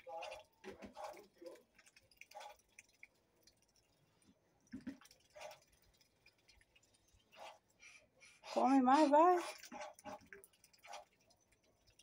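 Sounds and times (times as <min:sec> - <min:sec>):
duck slurping and splashing water: 0:00.0 - 0:12.0.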